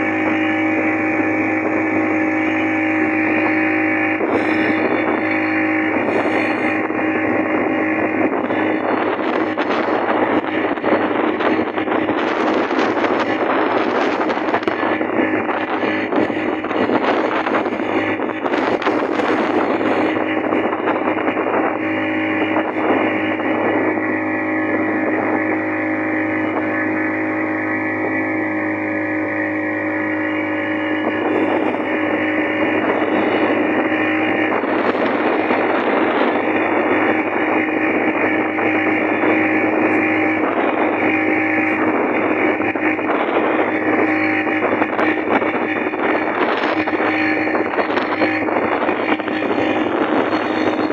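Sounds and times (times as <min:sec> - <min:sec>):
motorboat engine droning: 0:00.0 - 0:50.9
rushing water: 0:00.0 - 0:50.9.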